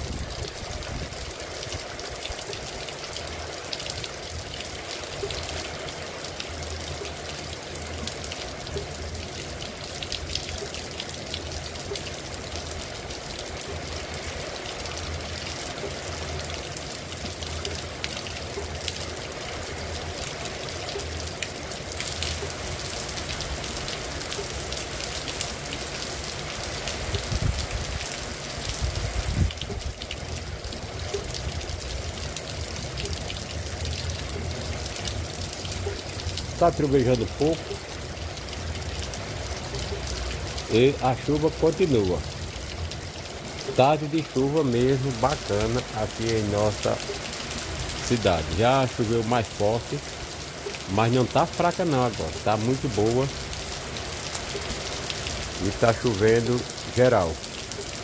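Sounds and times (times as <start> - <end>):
heavy rain: 0.0 - 58.0
running water trickling: 0.0 - 58.0.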